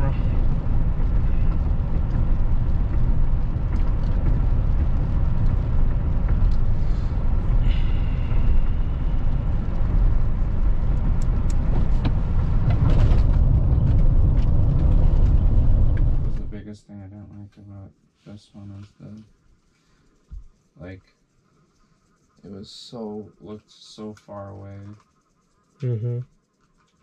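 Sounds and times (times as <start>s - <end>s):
vehicle engine rumble: 0.0s - 27.0s.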